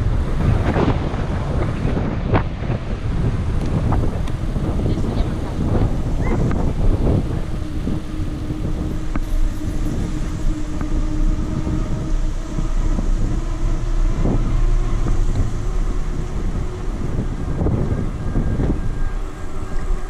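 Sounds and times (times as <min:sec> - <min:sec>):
steady hum: 0:00.0 - 0:20.0
tyres rumbling on asphalt: 0:00.0 - 0:20.0
wind rushing over microphone: 0:00.0 - 0:20.0.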